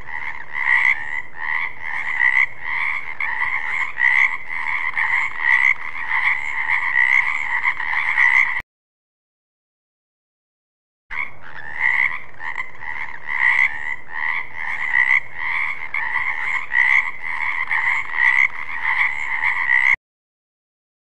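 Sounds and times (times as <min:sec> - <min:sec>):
frogs croaking in chorus: 0:00.0 - 0:08.6, 0:11.1 - 0:20.0.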